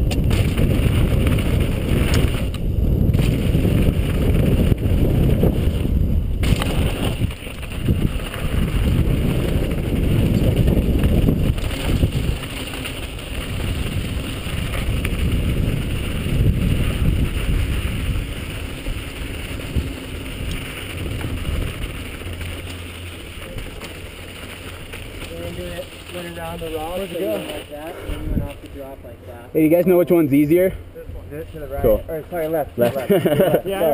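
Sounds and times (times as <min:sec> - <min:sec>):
wind buffeting microphone: 0:00.0 - 0:29.2
bike tyres rolling on dirt trail: 0:00.0 - 0:33.9.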